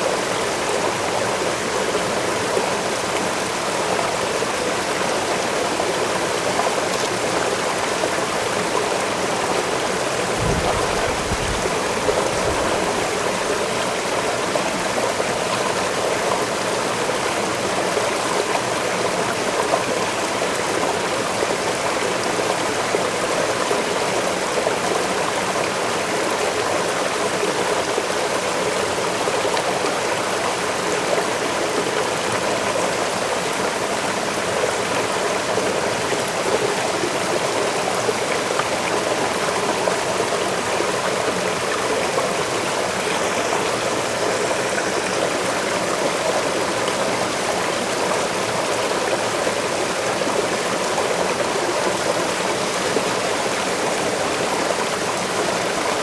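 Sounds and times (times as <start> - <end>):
waterfall and stream rushing: 0.0 - 56.0.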